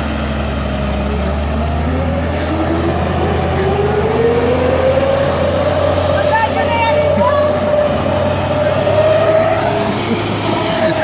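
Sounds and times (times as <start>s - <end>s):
engine whine rising in pitch: 0.0s - 11.0s
excavator diesel engine running: 0.0s - 11.0s.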